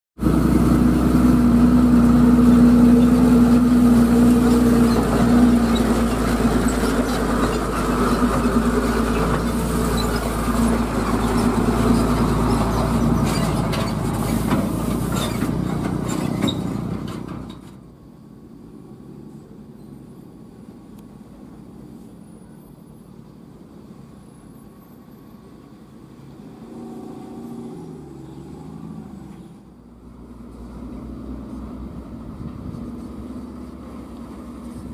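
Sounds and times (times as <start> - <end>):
diesel truck engine under load: 0.2 - 18.6, 23.7 - 34.9
distant truck engine: 0.2 - 34.9.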